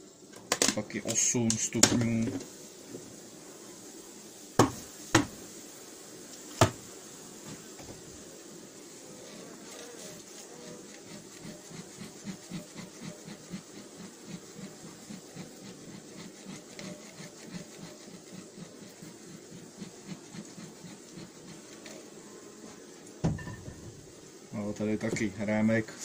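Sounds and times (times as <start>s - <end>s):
bee smoker bellows puffing: 0.2s - 26.0s.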